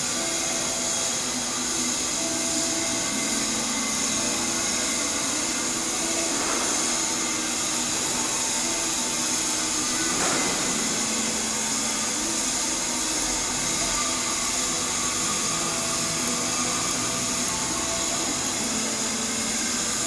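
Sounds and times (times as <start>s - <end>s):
welding arc hissing: 0.0s - 20.0s.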